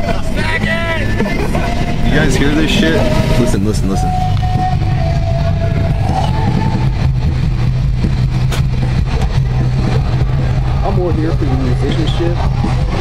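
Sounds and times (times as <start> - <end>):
car engine and road noise: 0.0 - 13.0
rising held tone: 0.2 - 13.0.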